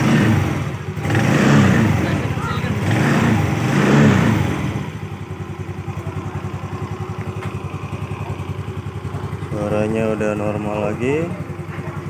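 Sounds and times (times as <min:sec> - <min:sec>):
scooter engine revving and idling: 0:00.0 - 0:12.0.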